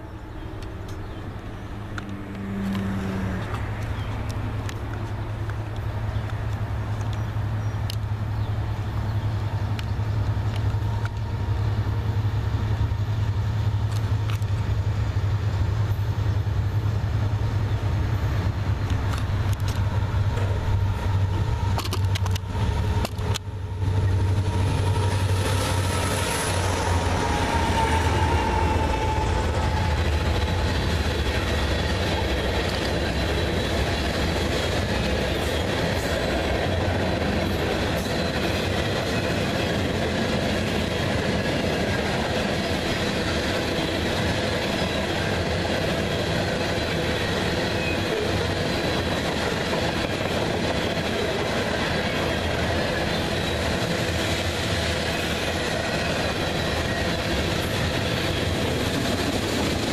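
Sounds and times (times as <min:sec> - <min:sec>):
diesel locomotive engine rumble: 0:00.0 - 0:59.9
train wheels rolling on rails: 0:00.0 - 0:59.9.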